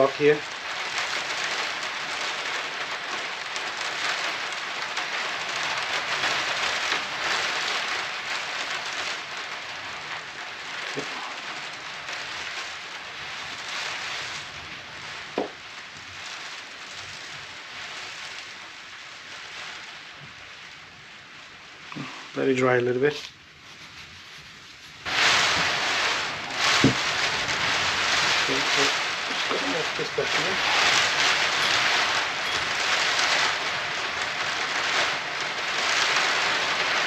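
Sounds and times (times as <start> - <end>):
rain on a roof: 0.0 - 37.0.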